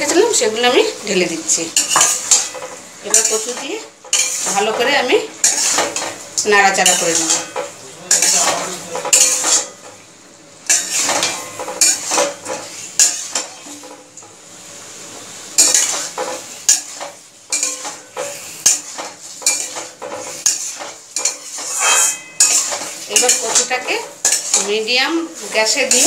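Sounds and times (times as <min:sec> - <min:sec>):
metal spatula scraping pan: 0:01.7 - 0:09.9, 0:10.7 - 0:14.0, 0:15.6 - 0:26.0.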